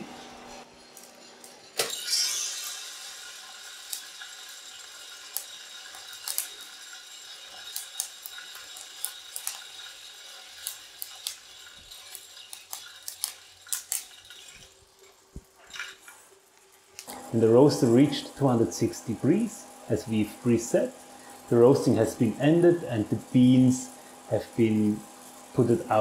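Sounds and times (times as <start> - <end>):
coffee beans clicking on metal: 0.9 - 26.0.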